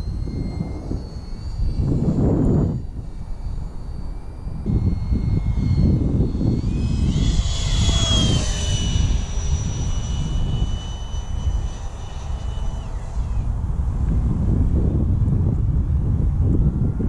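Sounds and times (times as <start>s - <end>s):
electric ducted fan whining: 0.0s - 17.0s
wind buffeting microphone: 0.0s - 17.0s.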